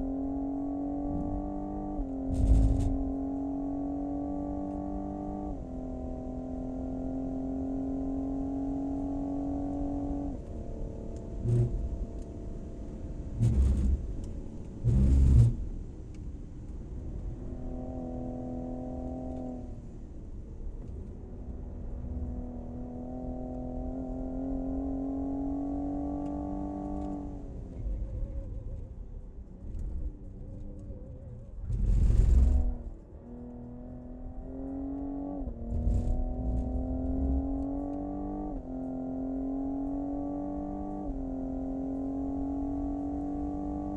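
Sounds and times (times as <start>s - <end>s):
car engine accelerating through gears: 0.0s - 43.9s.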